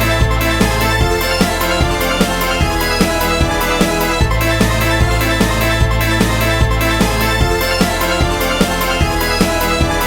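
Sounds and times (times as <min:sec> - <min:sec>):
deep bass: 0:00.0 - 0:10.0
electronic music: 0:00.0 - 0:10.0
kick drum beat: 0:00.0 - 0:10.0
sustained synth chords: 0:00.0 - 0:10.0.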